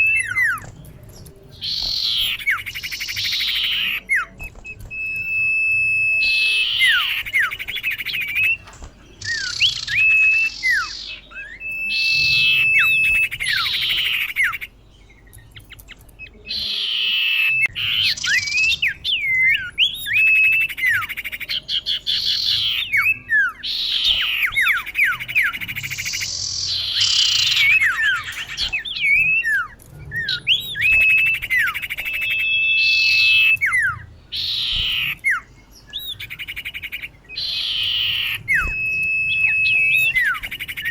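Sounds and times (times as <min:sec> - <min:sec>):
bird calling with whistles and rasps: 0:00.0 - 0:40.9.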